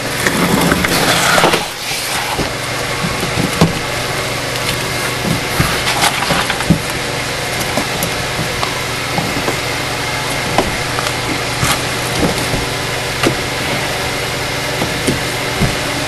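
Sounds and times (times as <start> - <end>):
background hum: 0.0 - 16.0
cardboard scraping: 0.0 - 16.0.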